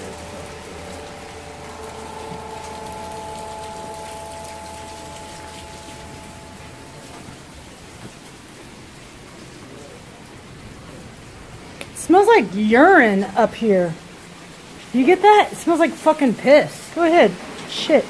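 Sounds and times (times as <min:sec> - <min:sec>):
faint steady hum: 0:00.0 - 0:18.0
rain falling: 0:00.0 - 0:18.0.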